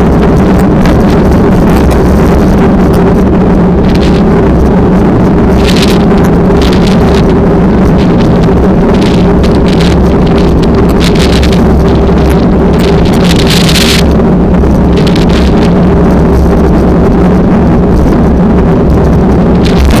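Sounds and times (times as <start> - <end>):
engine drone: 0.0 - 20.0
wind buffeting microphone: 0.0 - 20.0.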